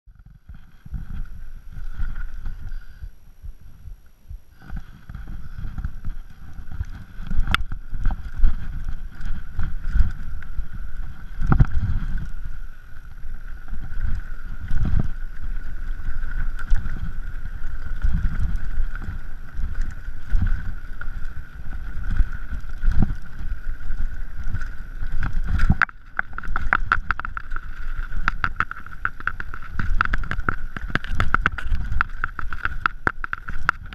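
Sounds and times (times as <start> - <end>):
wind rumble on microphone: 0.1 - 33.9
bike knocking and rattling: 4.3 - 33.9.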